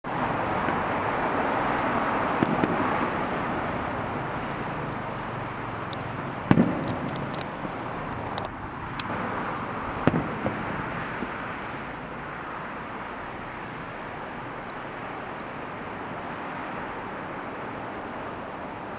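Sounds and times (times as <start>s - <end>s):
fireworks booming: 0.1s - 16.3s
fireworks crackling: 0.1s - 18.9s
steady rushing background noise: 0.1s - 18.9s.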